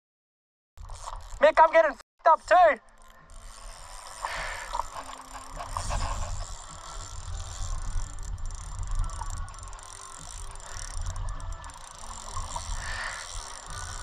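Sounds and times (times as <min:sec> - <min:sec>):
fishing reel clicking and whirring: 0:00.8 - 0:01.7, 0:02.4 - 0:14.0.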